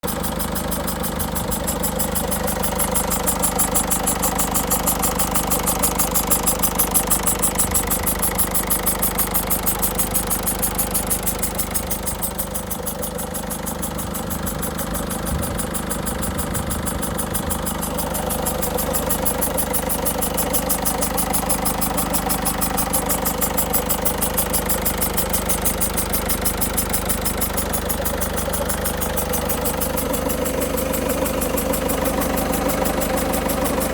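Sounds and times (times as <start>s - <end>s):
diesel engine idling: 0.0s - 33.9s
pulsing hiss: 0.1s - 33.9s.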